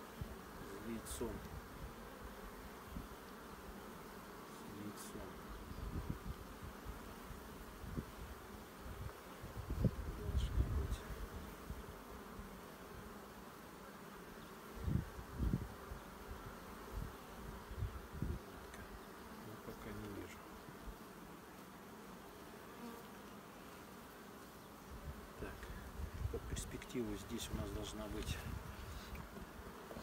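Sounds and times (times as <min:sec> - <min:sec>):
honey bees humming: 0:00.0 - 0:30.0.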